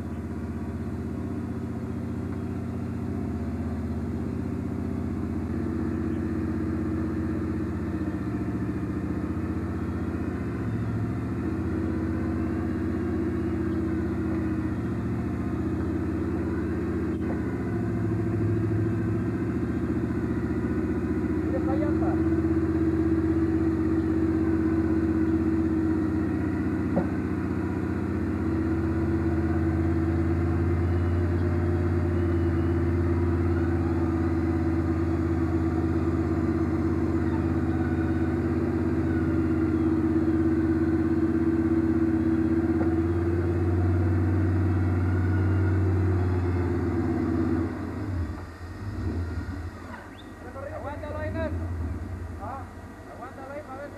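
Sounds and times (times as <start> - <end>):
vee eight engine idling: 0.0 - 53.9.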